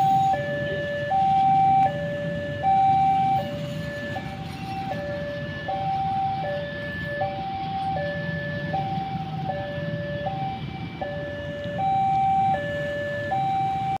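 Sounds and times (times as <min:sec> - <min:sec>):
level-crossing two-tone alarm: 0:00.0 - 0:14.0
passing train rumble: 0:00.0 - 0:14.0.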